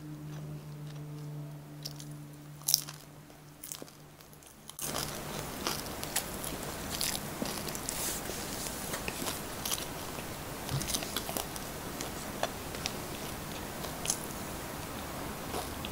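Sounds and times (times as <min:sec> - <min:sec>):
crunchy biting and chewing: 0:00.2 - 0:15.9.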